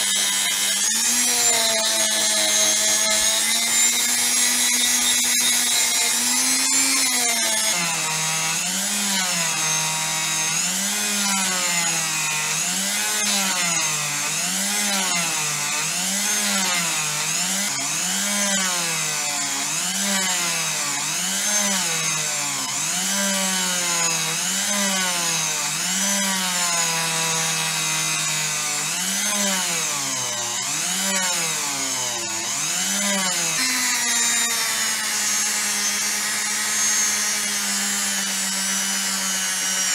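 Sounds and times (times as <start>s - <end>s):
power tool motor running: 0.0s - 39.9s.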